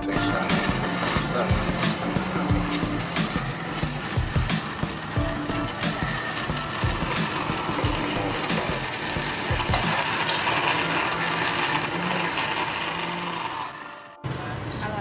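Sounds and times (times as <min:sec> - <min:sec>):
blender running: 0:00.0 - 0:14.3.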